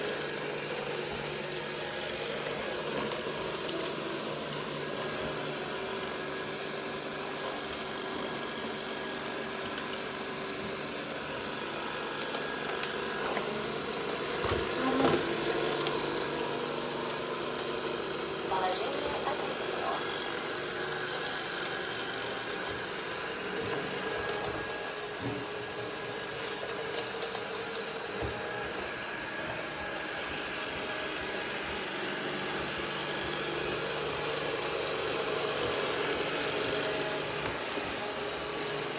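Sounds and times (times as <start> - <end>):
vacuum cleaner humming: 0.0 - 38.9.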